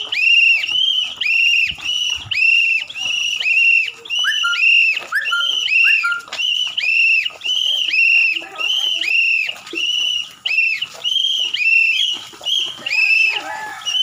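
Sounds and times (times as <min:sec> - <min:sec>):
lower whistle tone: 0:00.0 - 0:14.0
whistle short blasts: 0:00.2 - 0:13.4.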